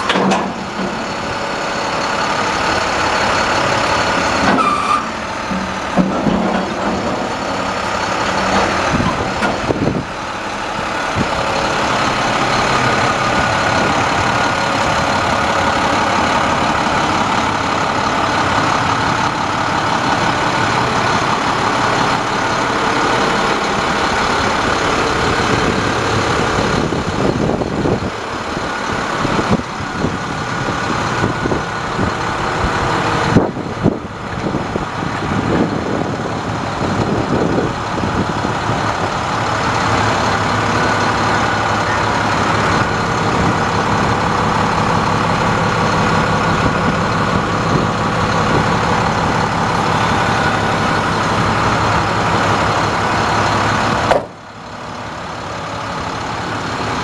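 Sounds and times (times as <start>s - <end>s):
diesel engine idling: 0.0s - 57.0s
engine knocks: 0.0s - 57.0s.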